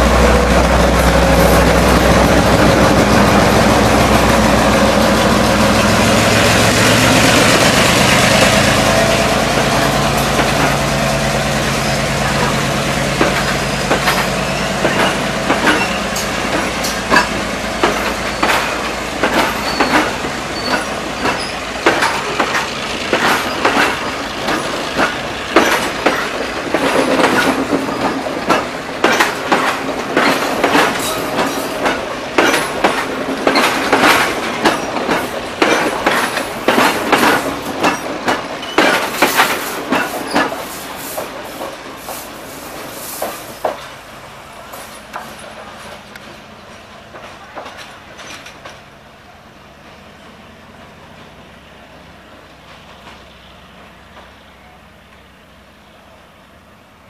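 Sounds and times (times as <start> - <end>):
train wheels clicking over rail joints: 0.0 - 49.1, 52.5 - 54.4
diesel locomotive hum: 0.0 - 57.0.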